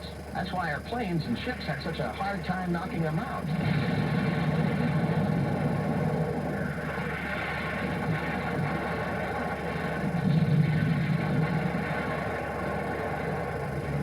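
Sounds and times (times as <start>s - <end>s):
noisy hiss: 0.0s - 14.0s
steady low rumble: 0.0s - 14.0s.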